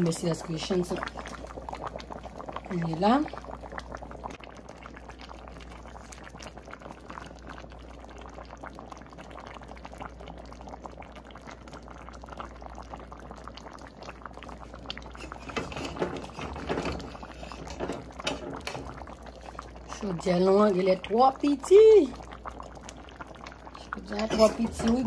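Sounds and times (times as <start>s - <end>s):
stew boiling in a pan: 0.0s - 25.0s.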